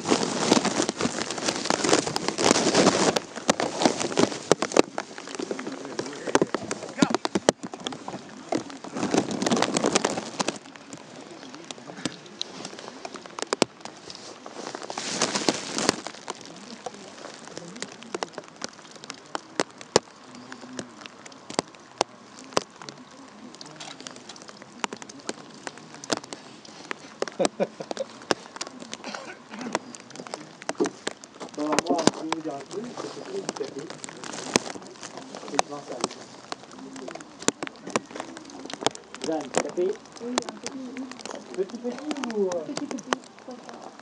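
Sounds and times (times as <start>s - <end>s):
rain pattering: 0.0s - 44.0s.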